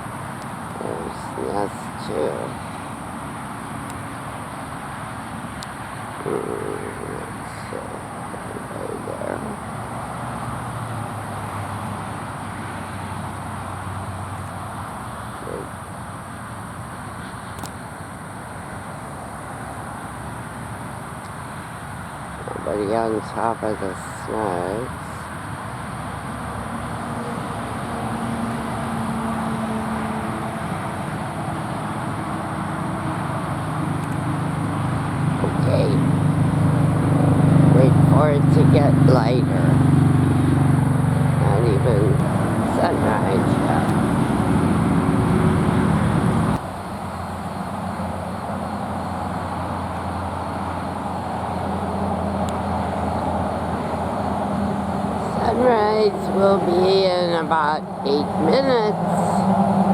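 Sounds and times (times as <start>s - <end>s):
road traffic hum: 0.0s - 59.9s.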